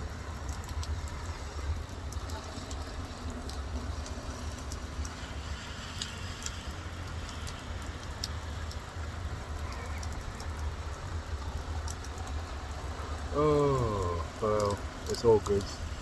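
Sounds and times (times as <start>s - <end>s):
drops ticking and splashing: 0.0s - 16.0s
heavy rain pouring: 0.0s - 16.0s.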